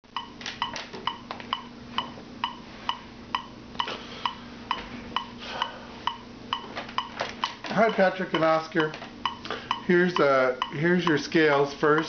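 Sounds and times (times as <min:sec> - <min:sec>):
faint steady hum: 0:00.0 - 0:12.0
metronome ticking: 0:00.0 - 0:12.0.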